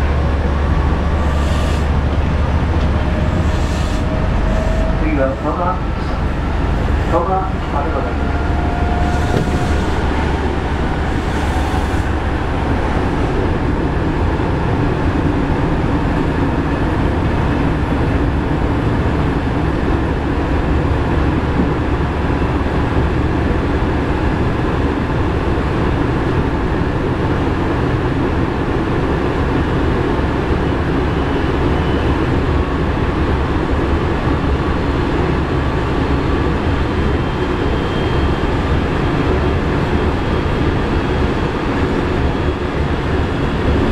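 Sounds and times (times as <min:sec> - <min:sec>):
train wheels rumbling: 0:00.0 - 0:43.9.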